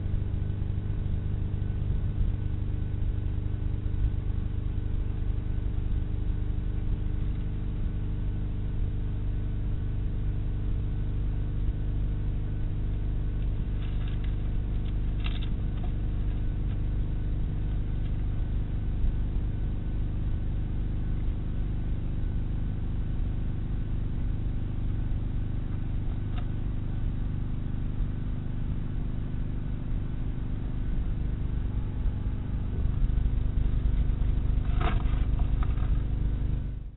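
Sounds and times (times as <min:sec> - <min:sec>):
steady low hum and rumble: 0:00.0 - 0:36.9.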